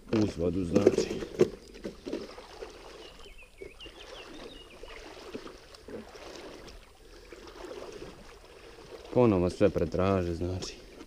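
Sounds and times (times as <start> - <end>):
wading steps in water: 0.0 - 11.0.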